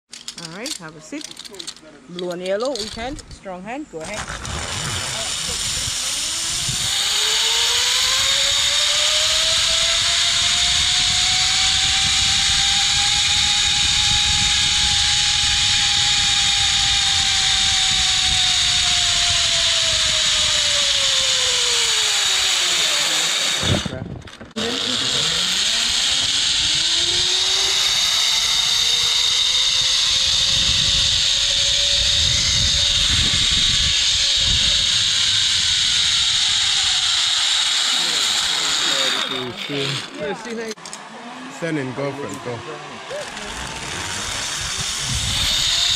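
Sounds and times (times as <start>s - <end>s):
zipline pulleys whining on cable: 4.0s - 45.9s.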